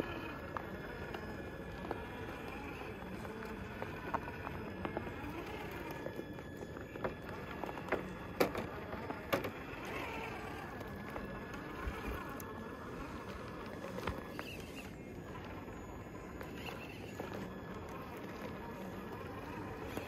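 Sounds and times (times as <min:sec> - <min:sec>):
rc car motor whining: 0:00.0 - 0:20.0.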